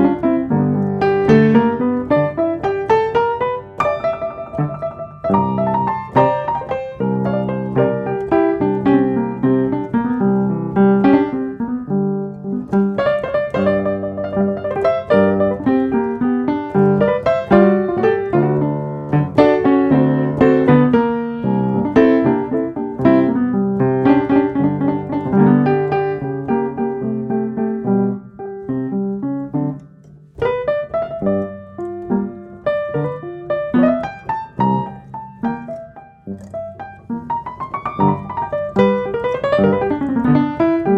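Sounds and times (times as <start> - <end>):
solo piano piece: 0.0 - 40.9.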